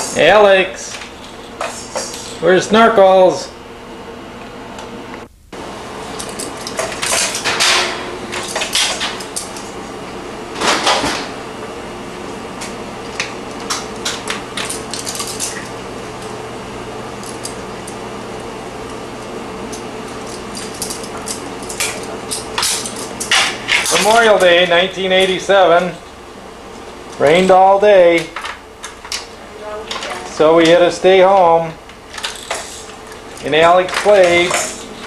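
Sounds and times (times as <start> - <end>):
faint hum: 0.0 - 35.0.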